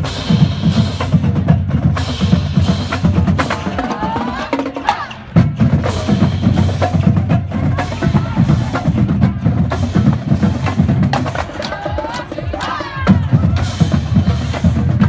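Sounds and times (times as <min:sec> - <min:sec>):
marching drum line playing: 0:00.0 - 0:15.0.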